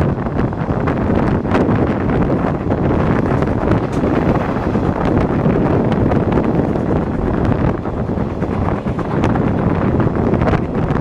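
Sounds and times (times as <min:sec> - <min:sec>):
steam train running: 0:00.0 - 0:11.0
wind buffeting microphone: 0:00.0 - 0:11.0.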